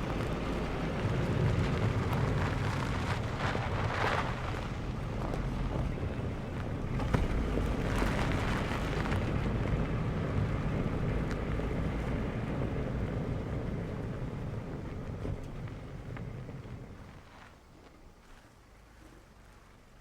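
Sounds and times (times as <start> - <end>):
wind buffeting microphone: 0.0 - 17.3.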